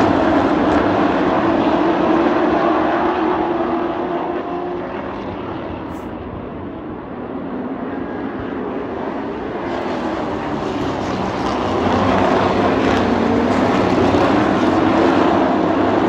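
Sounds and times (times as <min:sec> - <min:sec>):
race truck engines at speed: 0:00.0 - 0:16.0.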